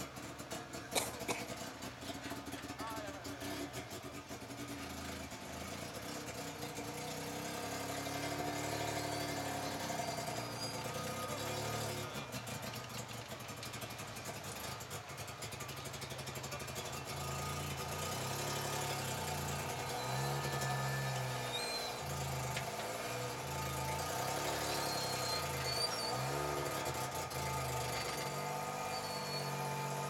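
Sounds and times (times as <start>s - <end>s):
vehicle engine at low revs: 0.0s - 30.0s.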